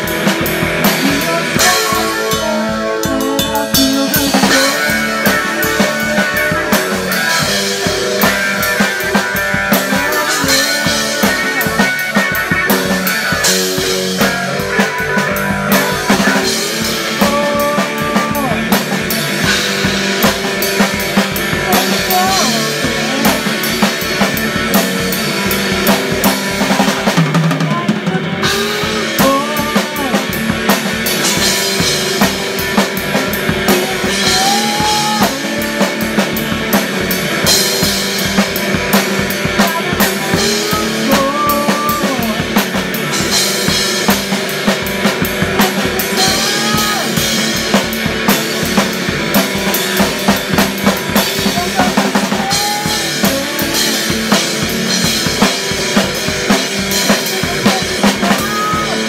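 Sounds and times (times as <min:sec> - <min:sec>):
drum kit with cymbals: 0:00.0 - 0:59.0
electric guitar with bent notes: 0:00.0 - 0:59.0.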